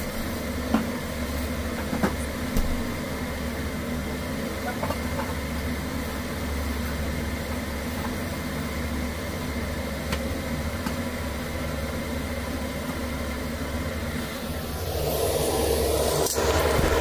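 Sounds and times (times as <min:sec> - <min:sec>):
exhaust fan humming: 0:00.0 - 0:17.0.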